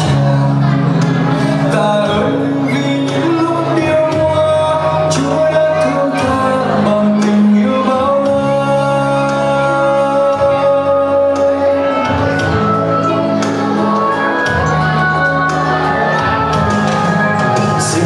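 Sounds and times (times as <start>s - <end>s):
slow music with held chords: 0.0s - 18.0s.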